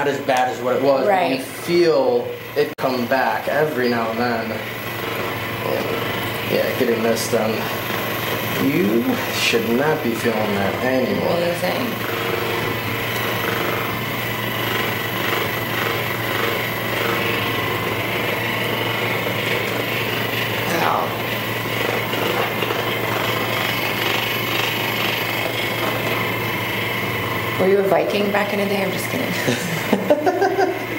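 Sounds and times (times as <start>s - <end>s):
electric massager buzzing: 0.0s - 30.9s.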